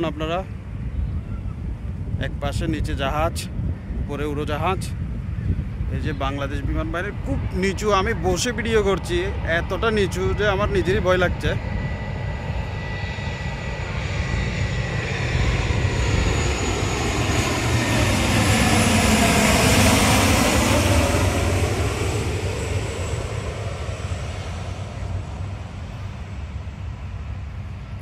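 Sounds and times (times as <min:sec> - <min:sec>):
airplane passing overhead: 0:00.0 - 0:28.0.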